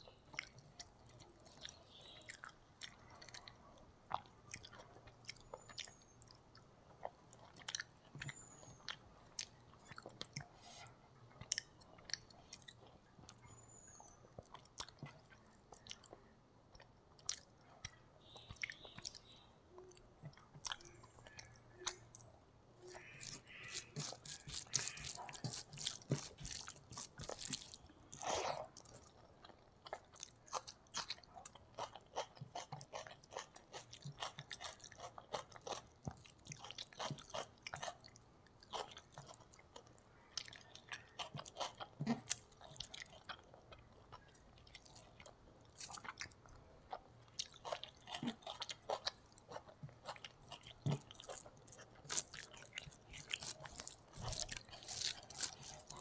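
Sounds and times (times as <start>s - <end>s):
wet chewing mouth sounds: 0.2s - 56.0s.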